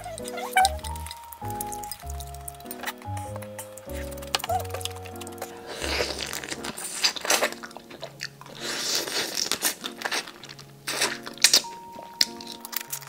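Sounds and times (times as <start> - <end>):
crunchy food being chewed: 0.0 - 13.0
soft background music: 0.0 - 13.0.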